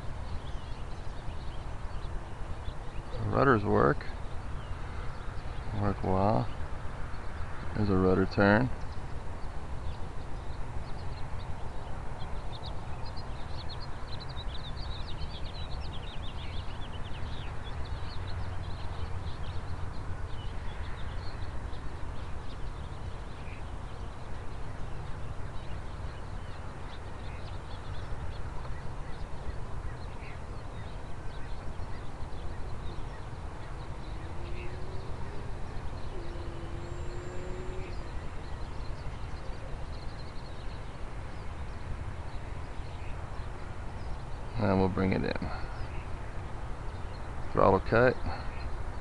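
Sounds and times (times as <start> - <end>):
flock of birds chirping: 0.0 - 49.0.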